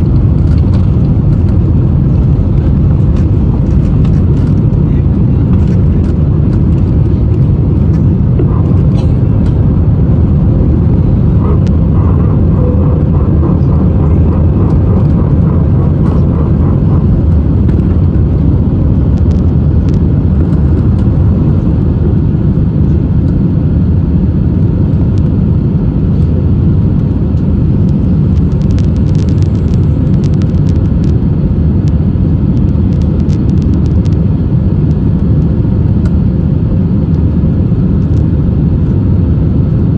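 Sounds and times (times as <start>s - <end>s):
airplane engines in cabin: 0.0s - 39.9s.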